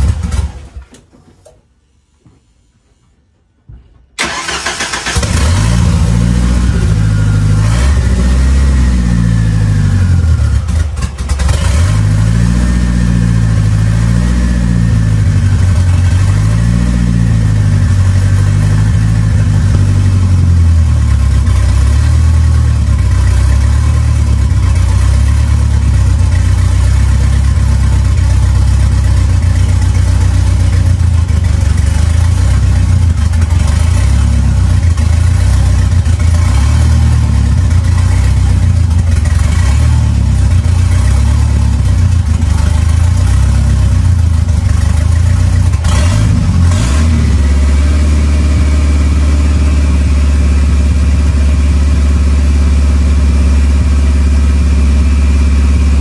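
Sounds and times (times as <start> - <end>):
car engine starting and idling: 0.0 - 1.2, 4.2 - 56.0.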